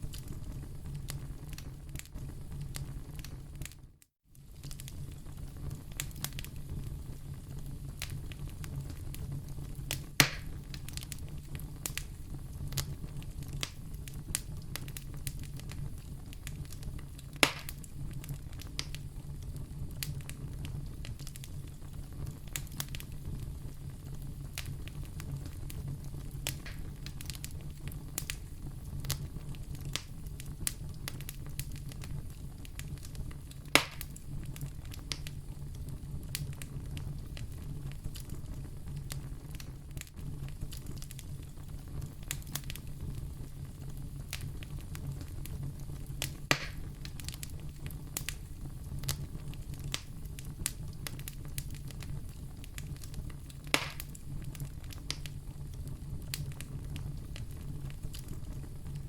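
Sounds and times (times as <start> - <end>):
fire crackling and popping: 0.0 - 59.0
fire flames rumbling: 0.0 - 59.0.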